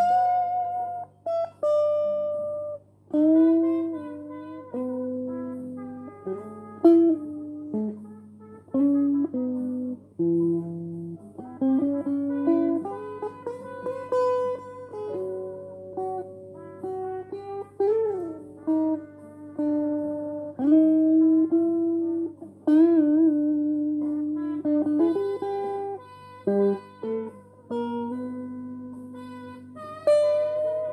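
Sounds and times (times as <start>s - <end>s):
electric guitar blues solo: 0.0s - 30.9s.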